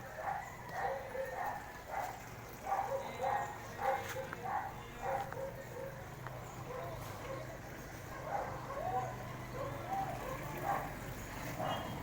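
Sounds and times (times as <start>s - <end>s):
dog barking: 0.2s - 6.0s, 6.7s - 12.0s.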